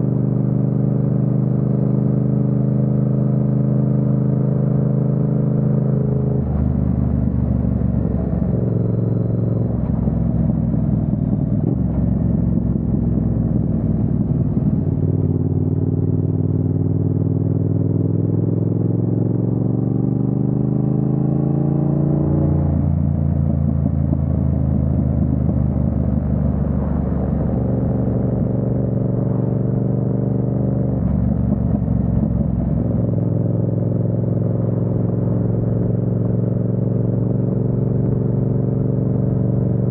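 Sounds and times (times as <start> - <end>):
motorcycle engine running: 0.0 - 21.7, 22.4 - 39.9.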